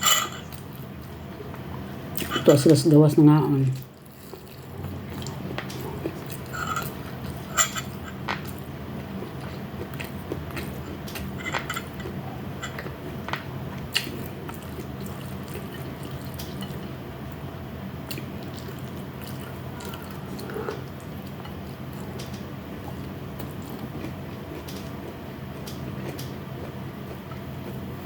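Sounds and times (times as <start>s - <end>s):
steady low hum: 0.0s - 28.0s
chewing and biting food: 3.8s - 16.9s, 18.1s - 28.0s.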